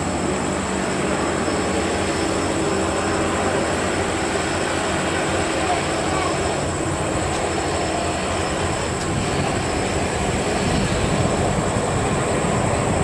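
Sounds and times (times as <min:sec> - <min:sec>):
trucks passing: 0:00.0 - 0:13.0.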